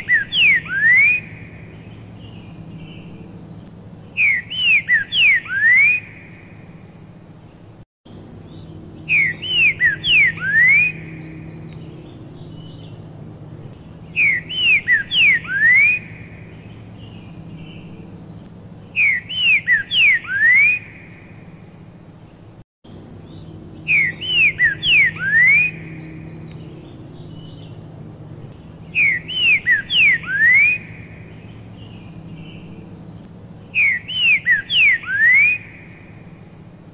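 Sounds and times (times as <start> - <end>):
bird whistling song: 0.0 - 6.8, 8.4 - 21.5, 23.2 - 36.4.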